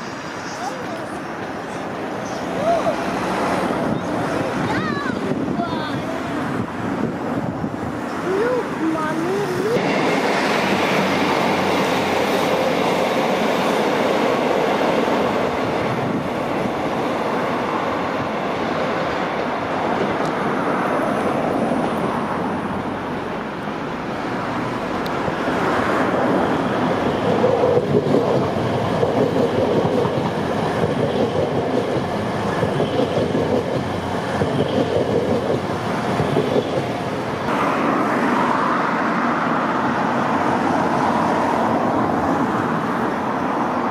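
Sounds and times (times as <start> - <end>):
train engines and wheels rumbling: 0.0 - 43.9.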